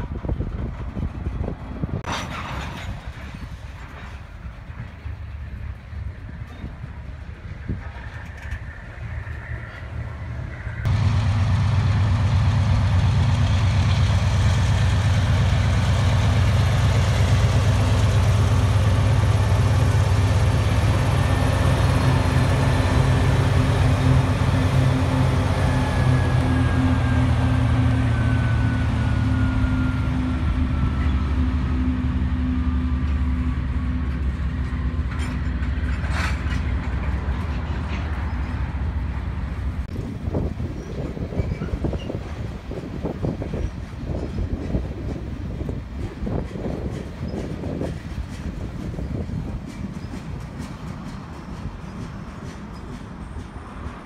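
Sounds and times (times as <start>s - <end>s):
diesel locomotive engine throbbing: 0.0s - 54.0s
freight cars rumbling on rails: 0.0s - 54.0s.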